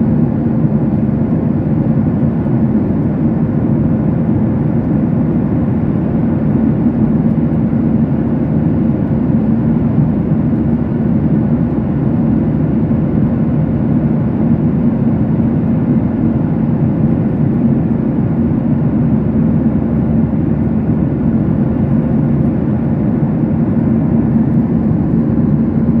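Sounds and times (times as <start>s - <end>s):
jet engine drone: 0.0s - 26.0s.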